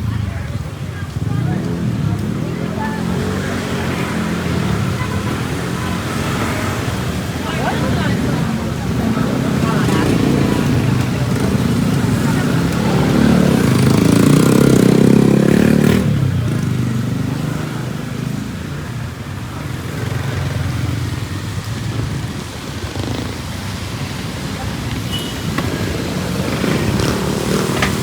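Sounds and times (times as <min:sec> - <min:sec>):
motorcycle engine passing: 0:00.0 - 0:28.0
street traffic noise: 0:00.0 - 0:28.0.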